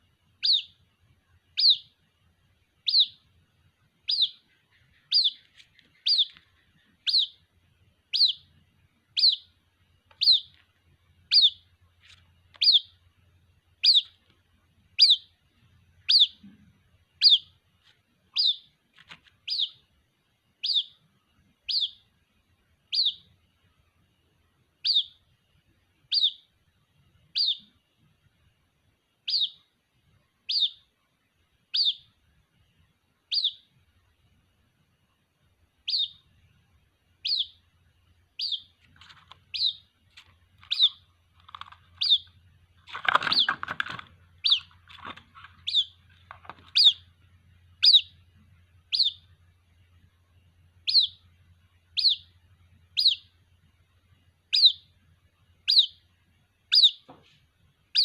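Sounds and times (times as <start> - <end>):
bird chick peeping: 0.0 - 58.0.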